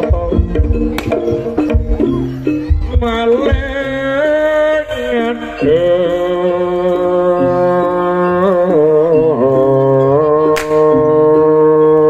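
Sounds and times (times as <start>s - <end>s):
traditional ensemble music: 0.0s - 12.0s.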